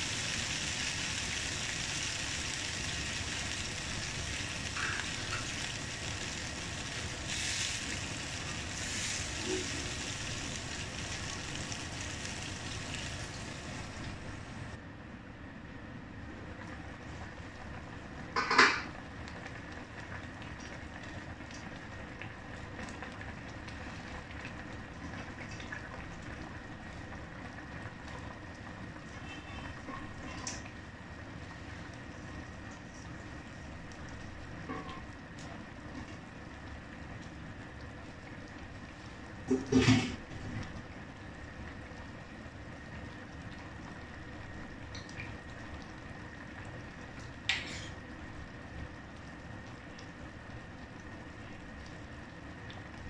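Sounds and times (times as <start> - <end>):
stew simmering in a wok: 0.0 - 53.0.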